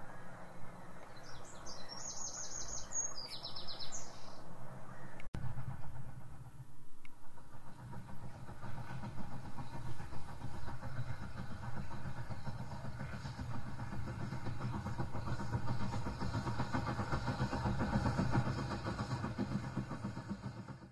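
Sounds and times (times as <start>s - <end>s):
steam locomotive running: 0.0s - 20.9s.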